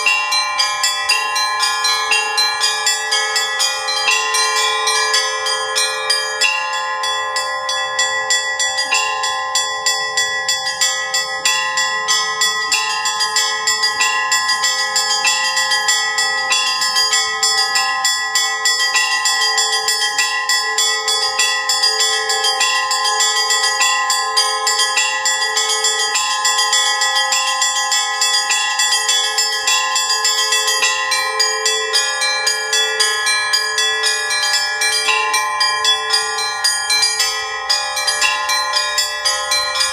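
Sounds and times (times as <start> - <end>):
large bells ringing: 0.0 - 39.9
small high bells struck: 0.0 - 39.9.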